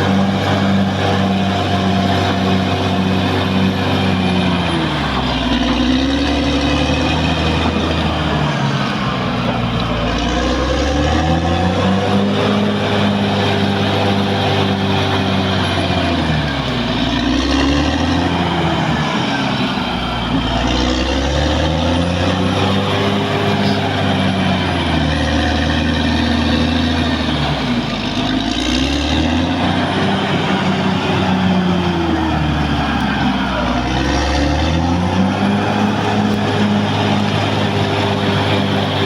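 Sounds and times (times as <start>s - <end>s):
bulldozer diesel engine running hard: 0.0s - 39.0s.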